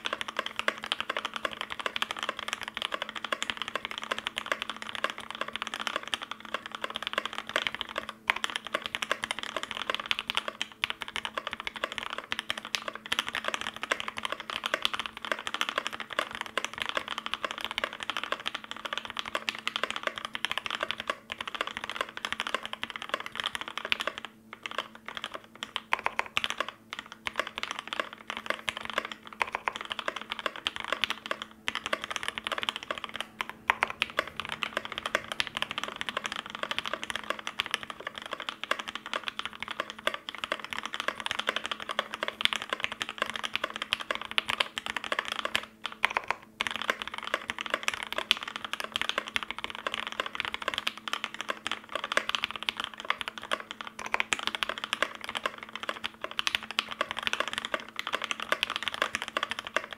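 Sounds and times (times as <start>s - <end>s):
mechanical keyboard typing: 0.0s - 59.9s.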